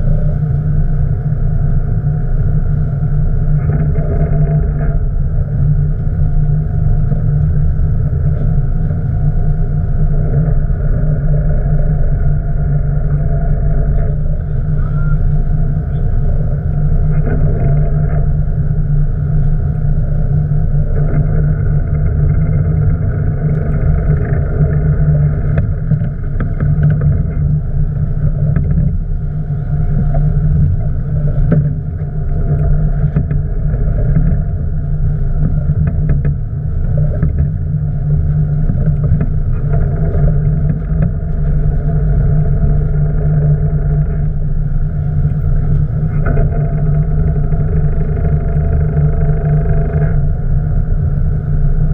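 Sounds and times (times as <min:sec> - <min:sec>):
boat engine running: 0:00.0 - 0:51.9.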